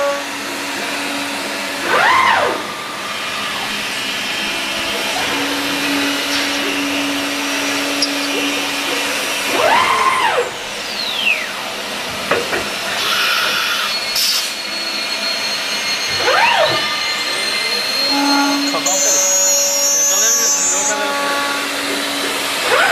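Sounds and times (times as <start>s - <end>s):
machining centre whirring: 0.0s - 22.9s.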